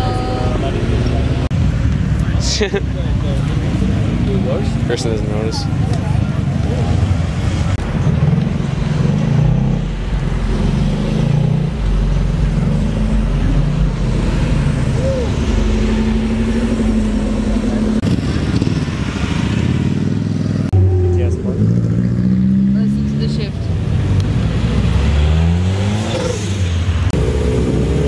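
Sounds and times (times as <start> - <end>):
cars driving slowly past: 0.0 - 28.0.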